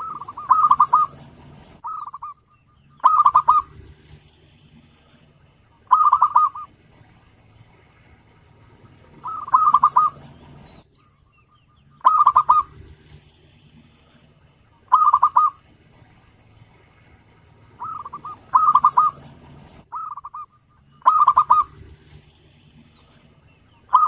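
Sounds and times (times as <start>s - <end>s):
dove cooing: 0.0s - 7.2s, 7.8s - 16.1s, 17.4s - 22.2s, 22.8s - 24.0s.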